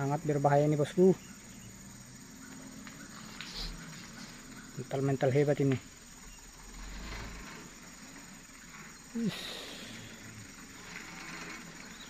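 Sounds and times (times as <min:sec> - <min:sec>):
insects chirring: 0:00.0 - 0:12.0
truck engine drone: 0:01.0 - 0:12.0.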